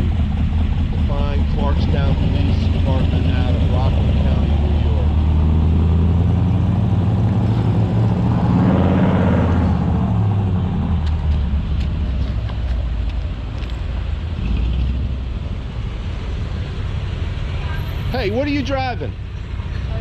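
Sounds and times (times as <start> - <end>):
car passing slowly: 0.0 - 20.0.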